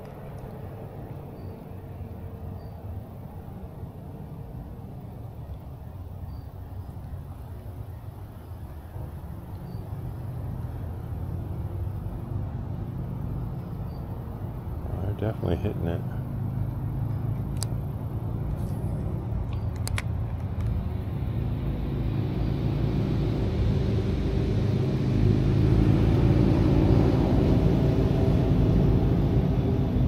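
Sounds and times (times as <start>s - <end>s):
vehicle engine rumble: 0.0s - 30.0s.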